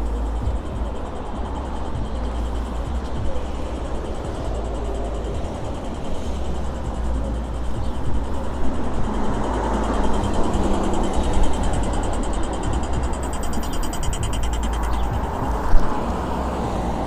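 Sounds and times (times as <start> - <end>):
traffic rumbling past: 0.0 - 17.0.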